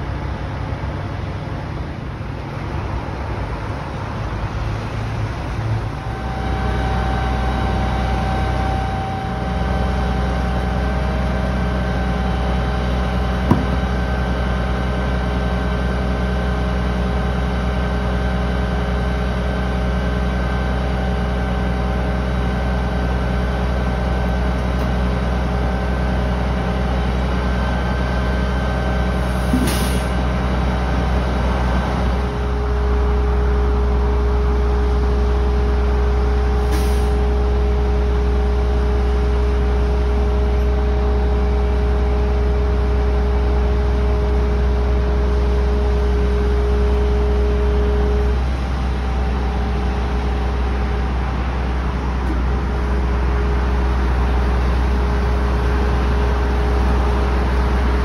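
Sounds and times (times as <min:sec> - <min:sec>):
truck engine running with whine: 0:00.0 - 0:58.0.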